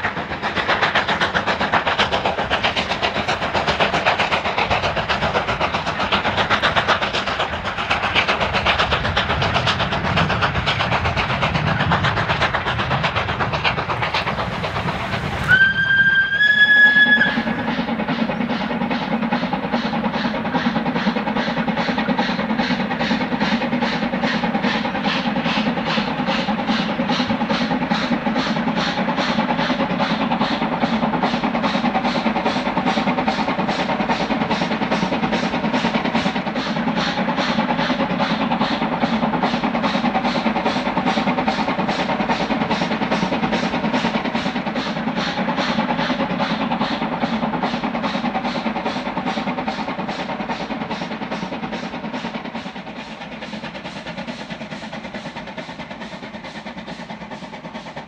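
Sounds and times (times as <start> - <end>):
steam locomotive exhaust beats: 0.0 - 58.0
train running noise: 0.0 - 58.0.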